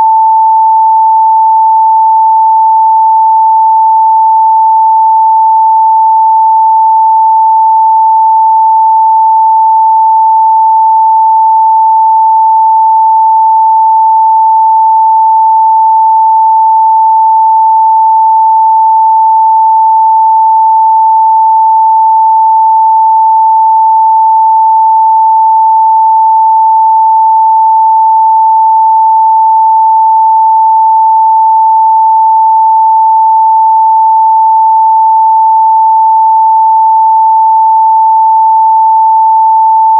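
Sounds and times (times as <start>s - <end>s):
sine test tone: 0.0s - 39.9s.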